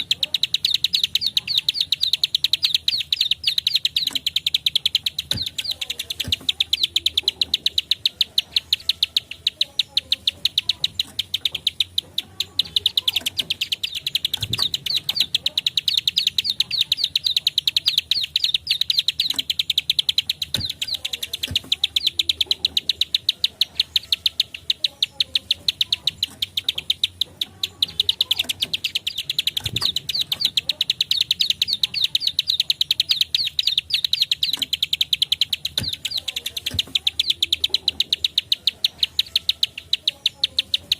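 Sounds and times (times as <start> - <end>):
bird calling with clicking notes: 0.0 - 40.9.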